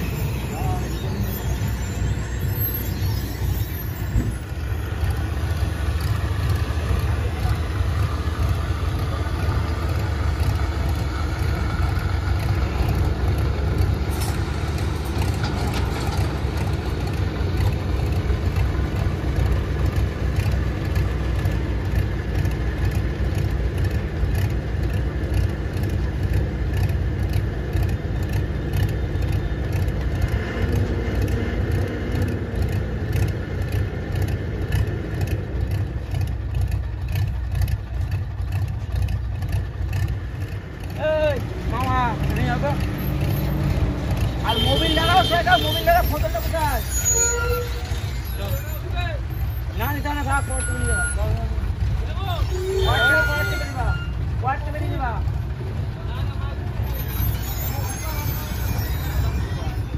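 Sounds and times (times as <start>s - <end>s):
diesel engine low drone: 0.0s - 59.9s.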